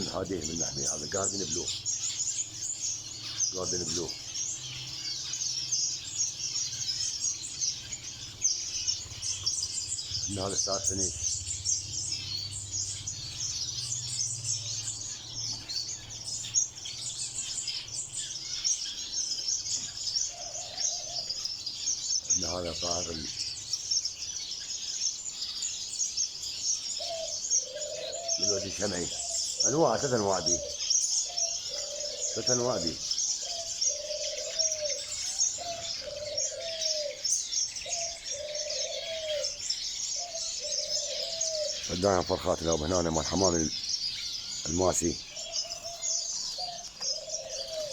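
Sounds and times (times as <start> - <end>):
dove cooing: 0.0 - 25.7, 26.4 - 47.9
finches chirping: 0.0 - 47.9.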